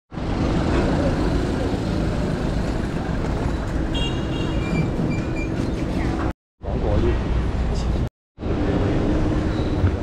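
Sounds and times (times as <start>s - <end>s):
street traffic: 0.1s - 10.0s.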